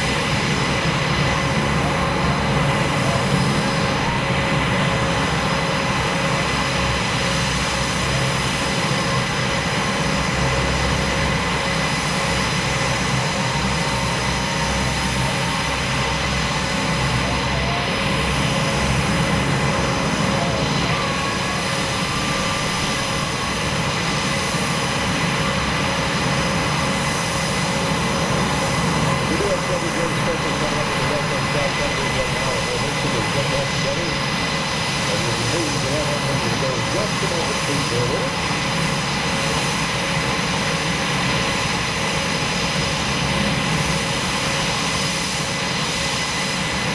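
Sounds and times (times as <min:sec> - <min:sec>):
thin steady whining tones: 0:00.0 - 0:42.9
jet engines running: 0:00.0 - 0:46.9.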